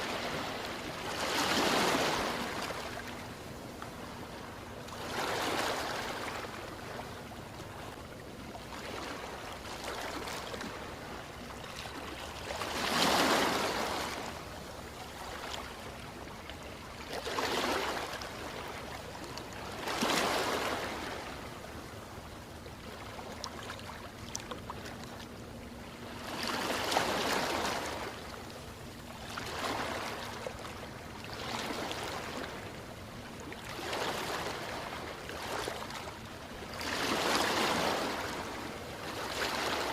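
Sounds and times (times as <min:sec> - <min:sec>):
ocean waves washing: 0:00.0 - 0:22.0, 0:22.8 - 0:39.9.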